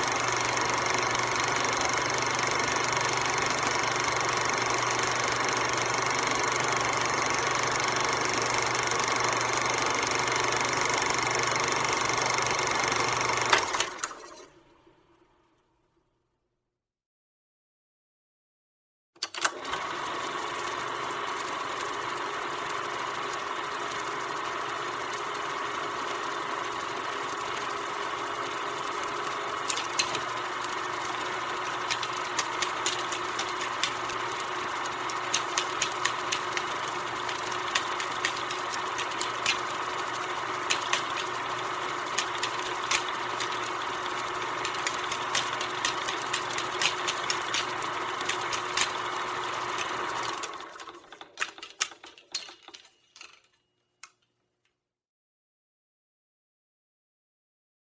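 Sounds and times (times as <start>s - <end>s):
film projector whirring: 0.0s - 15.2s, 19.3s - 53.0s.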